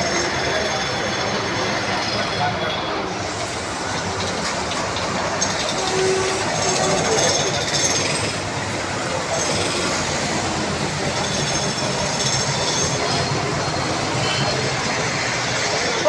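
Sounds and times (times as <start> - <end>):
rickshaw engines running: 0.0 - 16.0
traffic on wet street: 0.0 - 16.0.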